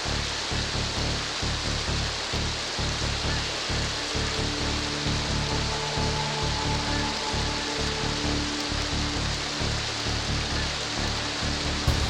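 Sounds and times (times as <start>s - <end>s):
background music with low beat: 0.1s - 12.0s.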